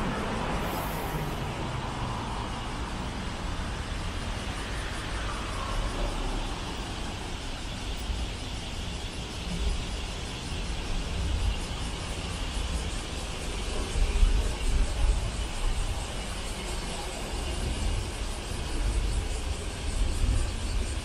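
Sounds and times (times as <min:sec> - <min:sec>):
road traffic rumble: 0:00.0 - 0:19.8.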